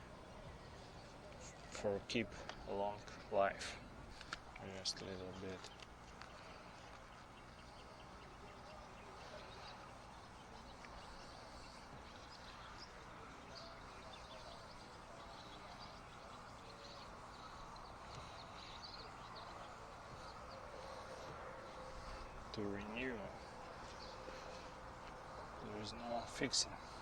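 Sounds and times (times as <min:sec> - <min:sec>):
faint outdoor background noise: 0:00.0 - 0:27.0.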